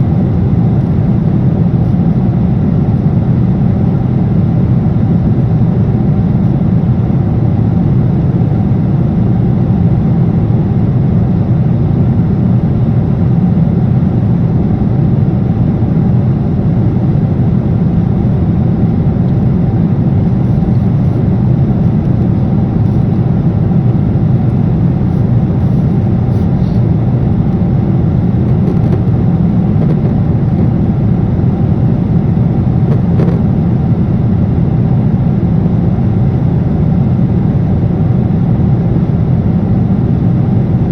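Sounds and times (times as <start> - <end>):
jet engine cabin roar: 0.0 - 40.9.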